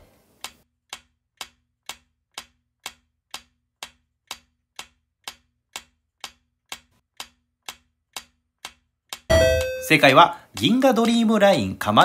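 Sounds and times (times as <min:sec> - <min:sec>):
clock-like ticking timer: 0:00.4 - 0:12.0.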